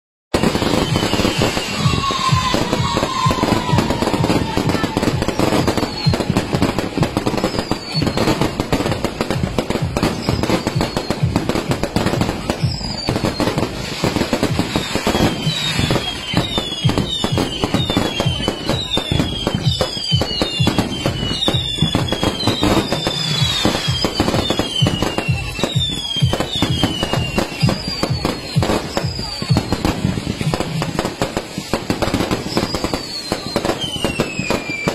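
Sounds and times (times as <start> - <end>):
falling firework whistles: 0.3 - 34.9
fireworks crackling and popping: 0.3 - 34.9.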